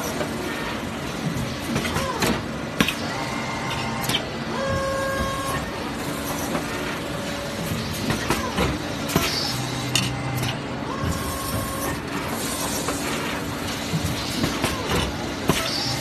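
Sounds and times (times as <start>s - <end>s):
conveyor belt running: 0.0s - 16.0s.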